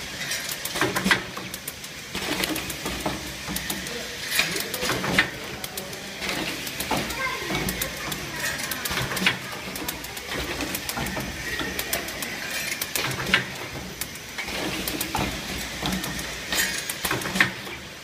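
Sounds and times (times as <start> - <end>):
clicking and clattering: 0.2 - 17.9.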